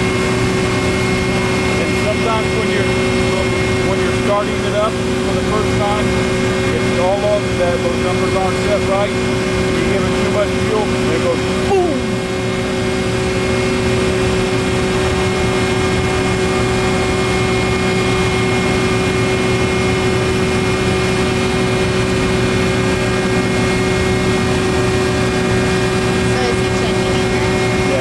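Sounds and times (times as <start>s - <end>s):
constant turbine whine: 0.0s - 28.0s
gas turbine generator running: 0.0s - 28.0s.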